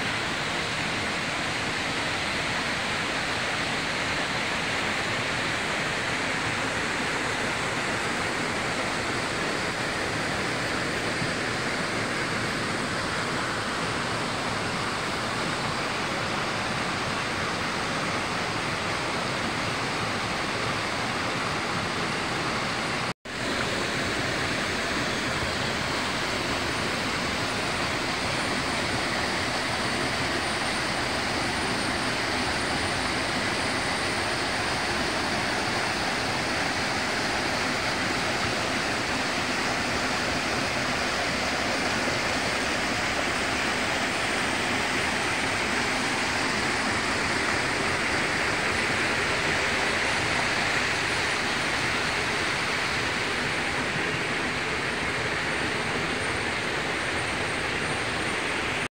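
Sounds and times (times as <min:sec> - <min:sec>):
water rushing over boulders: 0:00.0 - 0:58.9.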